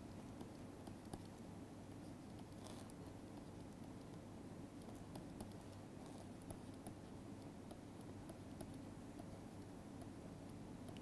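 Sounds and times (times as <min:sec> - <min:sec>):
low steady hum: 0:00.0 - 0:11.0
stylus tapping on a tablet: 0:00.4 - 0:01.4, 0:02.4 - 0:05.8, 0:06.4 - 0:11.0.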